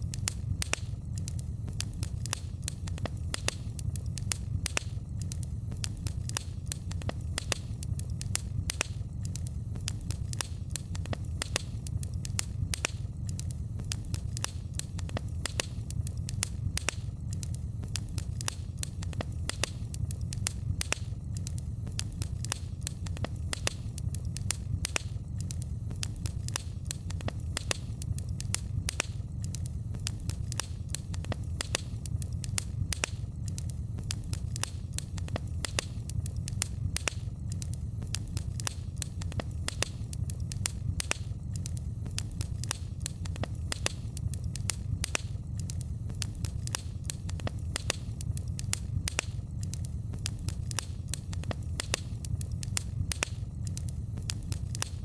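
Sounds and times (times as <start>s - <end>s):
fire pops: 0.0s - 55.0s
low rumble of flames: 0.0s - 55.0s
wood fire crackling: 0.0s - 55.0s.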